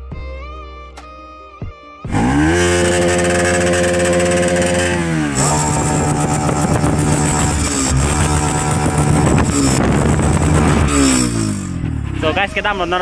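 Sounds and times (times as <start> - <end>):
motorcycle engine revving and idling: 2.1 - 13.0.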